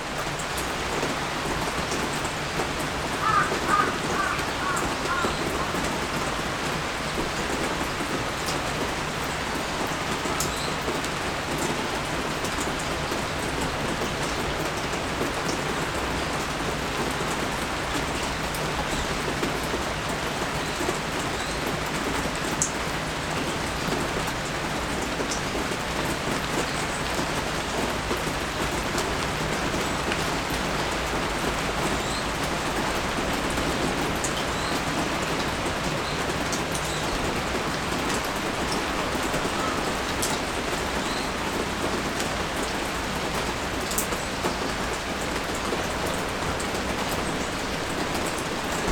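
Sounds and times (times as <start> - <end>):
rain pattering on surfaces: 0.0 - 48.9.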